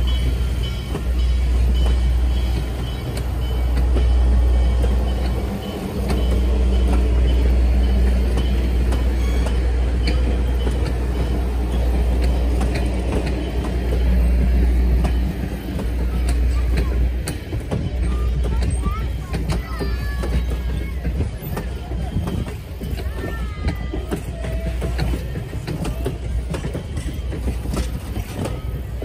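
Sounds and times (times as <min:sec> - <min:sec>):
moving vehicle rumble: 0:00.0 - 0:29.0.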